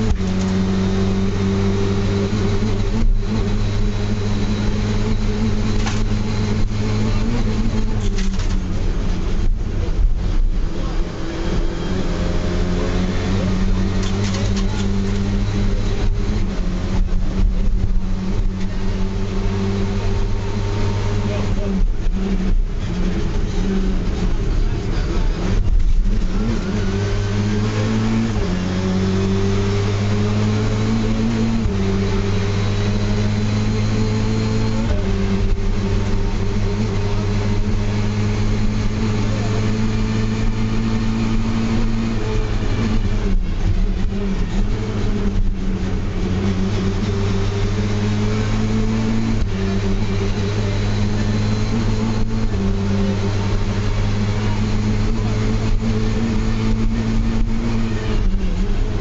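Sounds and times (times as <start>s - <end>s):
rally car engine at high revs: 0.0s - 59.0s.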